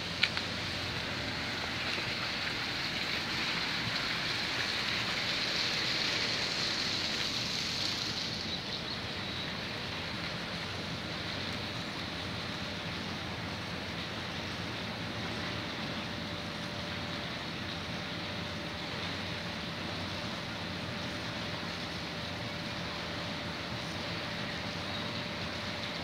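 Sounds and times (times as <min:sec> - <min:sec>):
faint low engine hum: 0:00.0 - 0:26.0
water rushing and hissing: 0:00.0 - 0:26.0.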